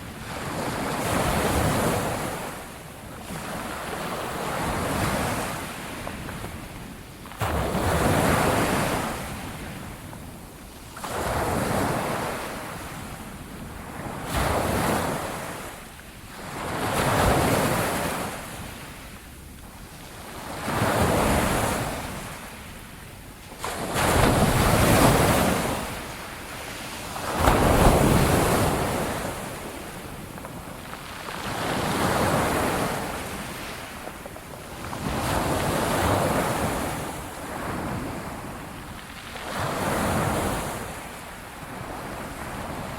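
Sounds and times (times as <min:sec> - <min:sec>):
waves breaking and washing in: 0:00.0 - 0:42.9.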